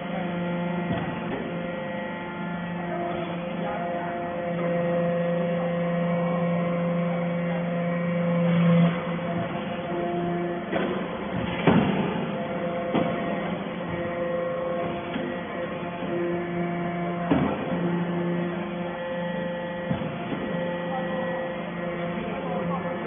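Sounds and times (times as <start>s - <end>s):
hydraulic power unit humming: 0.0s - 23.0s.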